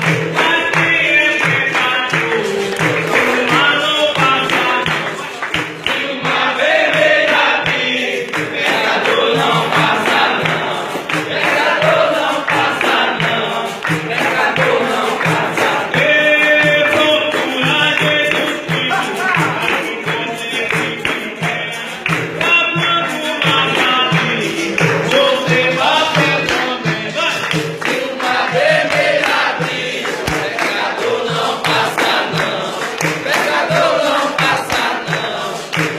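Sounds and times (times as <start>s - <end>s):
group singing: 0.0s - 35.9s
pandeiro beat: 0.0s - 35.9s.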